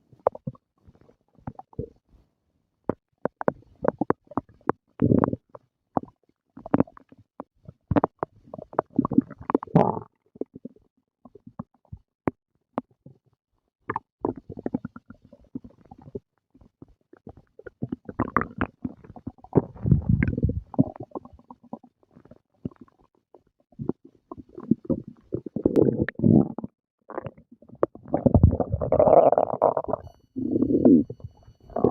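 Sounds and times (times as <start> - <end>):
stomach growling and gurgling: 0.0 - 2.1, 2.9 - 31.9.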